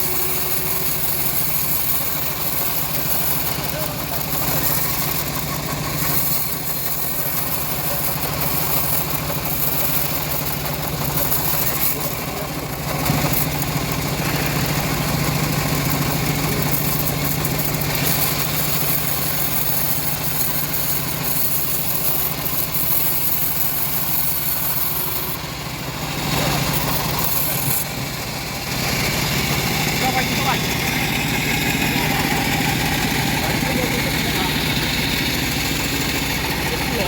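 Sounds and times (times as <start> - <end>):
engine-driven bandsaw running: 0.0 - 37.0
saw hiss: 0.0 - 37.0.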